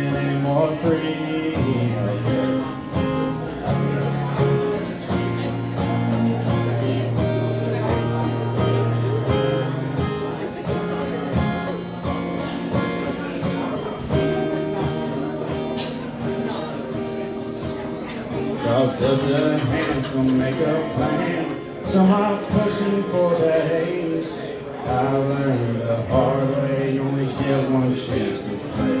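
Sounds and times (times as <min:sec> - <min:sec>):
guitar strumming: 0:00.0 - 0:29.0.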